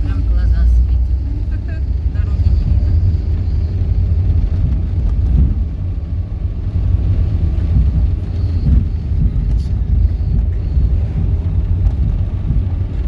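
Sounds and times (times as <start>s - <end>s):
car interior rumble while driving: 0.0s - 13.0s.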